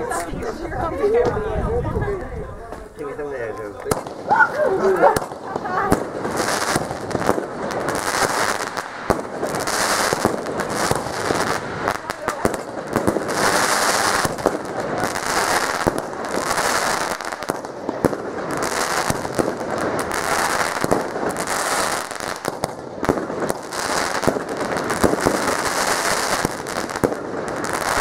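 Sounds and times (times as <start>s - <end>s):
fireworks crackling and popping: 2.2s - 28.0s.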